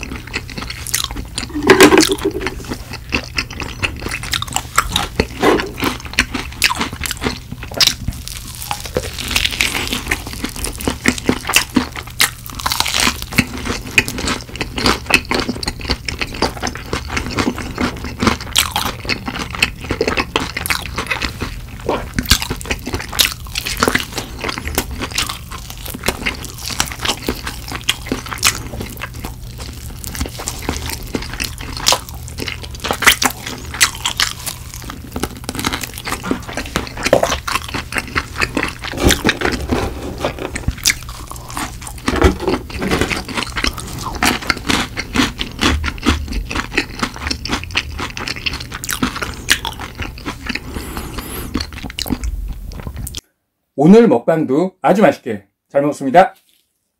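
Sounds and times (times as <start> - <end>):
crunchy chewing of fried chicken: 0.0 - 53.2, 56.4 - 56.9.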